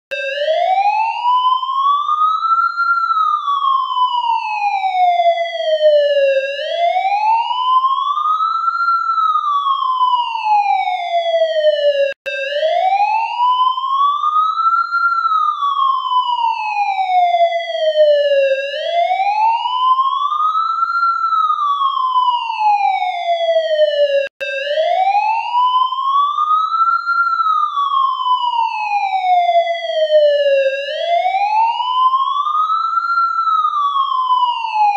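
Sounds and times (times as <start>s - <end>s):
ambulance siren wailing: 0.1s - 34.9s.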